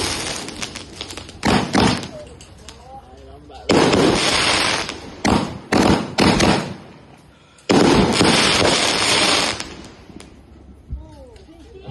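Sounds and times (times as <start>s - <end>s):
fireworks bangs: 0.0s - 2.9s, 3.6s - 10.7s
dense burst of fireworks: 0.0s - 3.0s, 3.6s - 10.8s.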